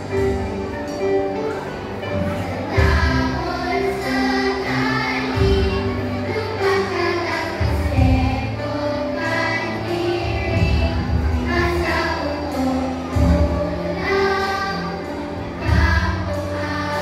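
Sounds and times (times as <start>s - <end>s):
children's choir singing: 0.0s - 17.0s
instrumental accompaniment: 0.0s - 17.0s.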